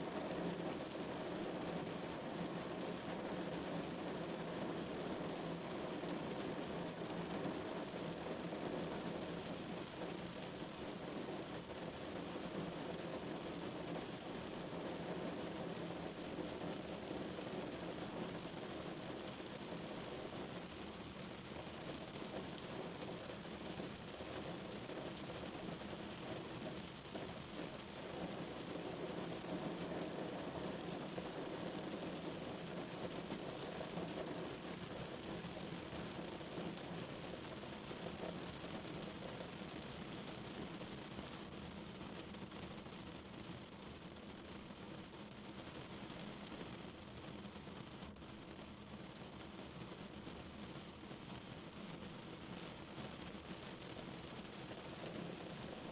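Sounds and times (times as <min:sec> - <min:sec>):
rain pattering on a car: 0:00.0 - 0:55.9.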